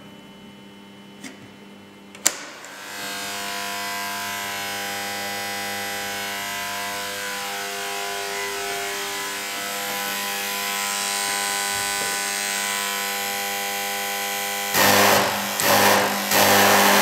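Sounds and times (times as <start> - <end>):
electrical hum and buzz: 0.0 - 17.0.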